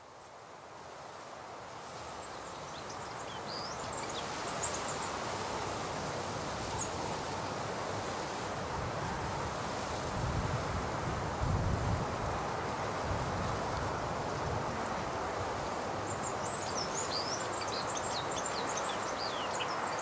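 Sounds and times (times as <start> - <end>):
wind rustling through grass: 0.0 - 20.0.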